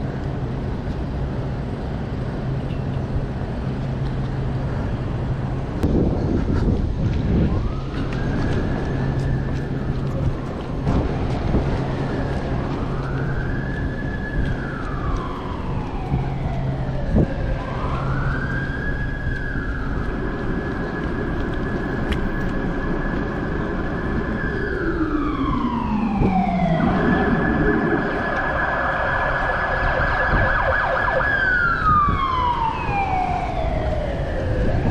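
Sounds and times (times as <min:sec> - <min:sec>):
street traffic noise: 0:00.0 - 0:34.9
emergency siren wailing: 0:03.8 - 0:34.9.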